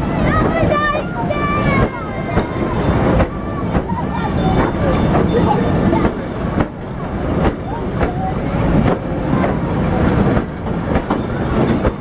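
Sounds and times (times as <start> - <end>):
faint voices: 0.0 - 12.0
train wheels rumbling on rails: 0.0 - 12.0
wheels clicking over rail joints: 0.2 - 12.0.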